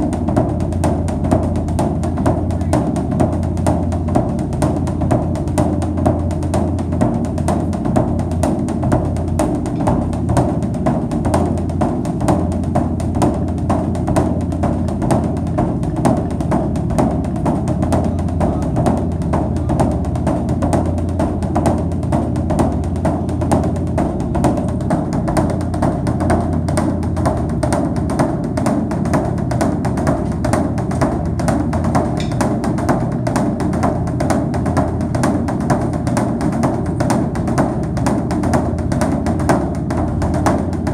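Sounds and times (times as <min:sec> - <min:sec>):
music with drum and wood-block beat: 0:00.0 - 0:40.9.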